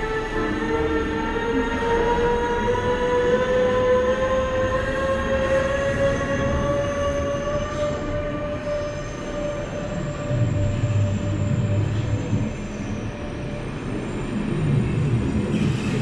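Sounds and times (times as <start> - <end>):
deep train rumble: 0.0 - 16.0
train running past: 0.0 - 16.0.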